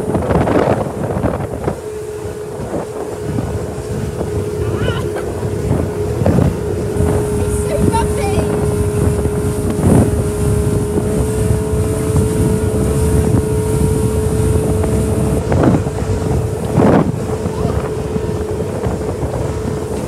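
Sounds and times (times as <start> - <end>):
hull slapping water: 0.0 - 20.0
motorboat engine drone: 0.0 - 20.0
wind on microphone: 0.0 - 20.0.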